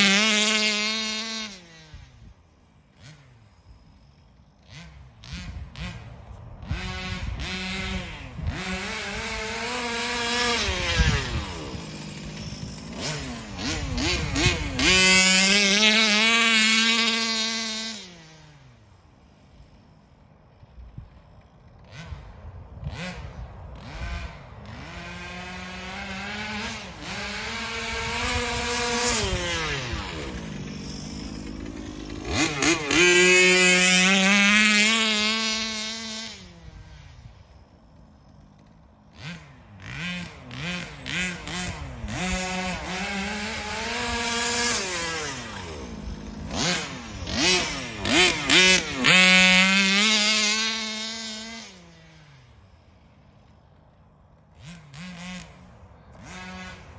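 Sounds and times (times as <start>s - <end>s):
small two-stroke engine revving: 0.0s - 56.9s.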